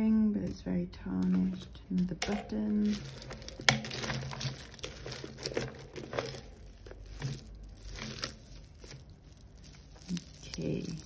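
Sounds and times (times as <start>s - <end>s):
jewellery clicking and rattling: 0.4s - 11.0s.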